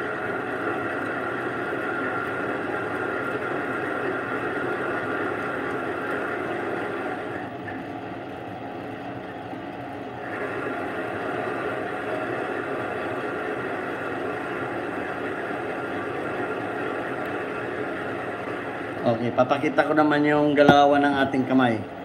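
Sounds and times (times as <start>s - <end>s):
lathe motor and gear whine: 0.0s - 22.0s.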